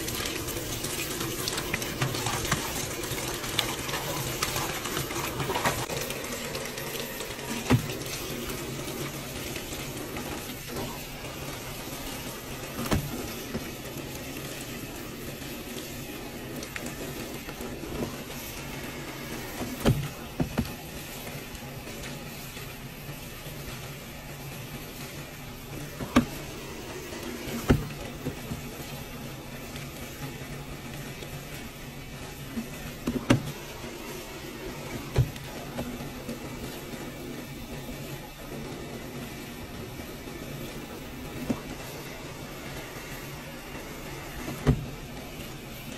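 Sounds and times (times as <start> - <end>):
water pouring into washing machine: 0.0 - 45.9.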